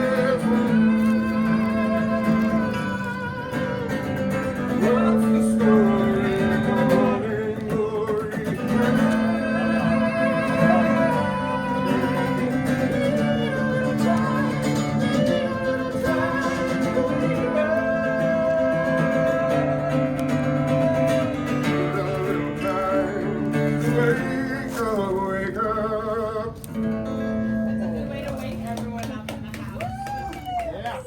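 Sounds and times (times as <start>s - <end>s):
acoustic guitar music: 0.0s - 29.8s.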